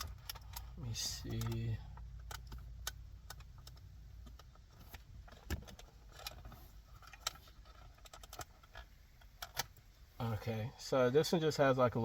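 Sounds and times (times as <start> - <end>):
plastic connector clicks and rattles: 0.0 - 9.8
low steady hum: 0.0 - 12.0.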